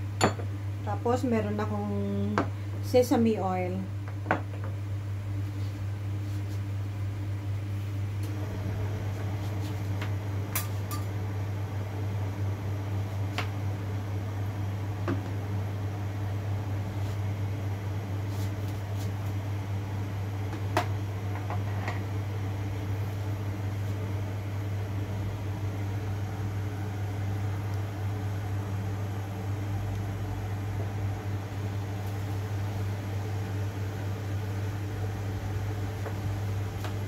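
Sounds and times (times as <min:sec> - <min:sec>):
low hum with faint hiss: 0:00.0 - 0:37.0.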